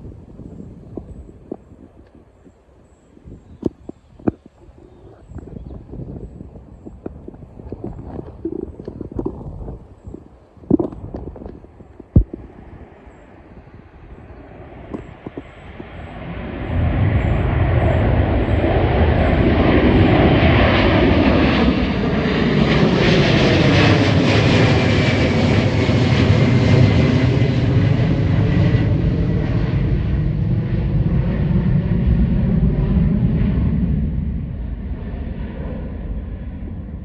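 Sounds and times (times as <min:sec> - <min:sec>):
high jet whine: 0:00.0 - 0:37.0
jet engines roaring: 0:00.0 - 0:37.0.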